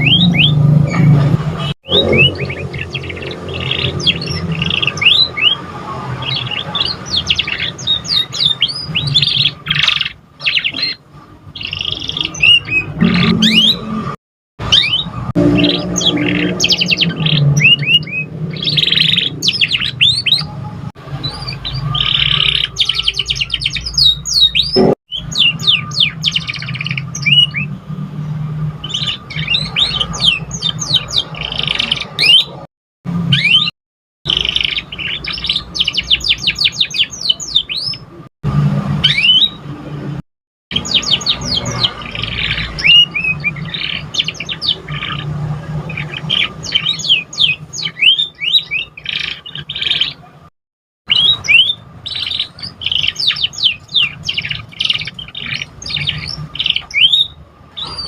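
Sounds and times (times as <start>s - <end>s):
canary singing trills: 0.0s - 28.0s, 28.6s - 33.7s, 34.3s - 38.2s, 39.0s - 39.7s, 40.7s - 50.4s, 51.1s - 58.0s.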